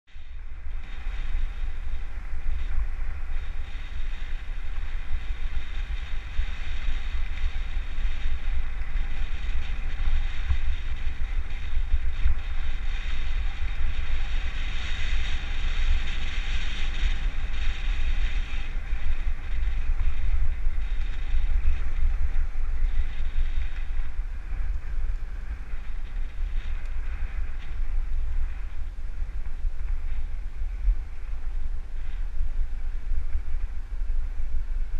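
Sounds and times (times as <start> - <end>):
wind buffeting microphone: 0.0 - 34.9
steady hiss: 0.1 - 34.9.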